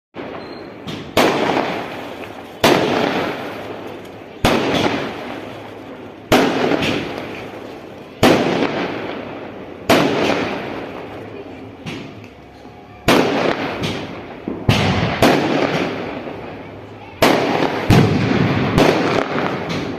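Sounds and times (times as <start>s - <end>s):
loud bangs: 0.2s - 12.2s, 13.0s - 16.4s, 17.2s - 19.9s.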